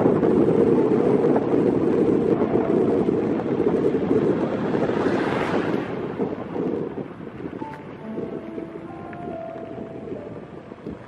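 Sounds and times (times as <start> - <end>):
wind rumble buffeting microphone: 0.0 - 11.0.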